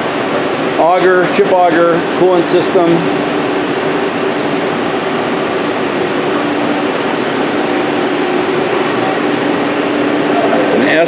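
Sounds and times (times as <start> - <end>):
machinery hum and rushing: 0.0 - 11.0
steady low tones: 0.0 - 11.0.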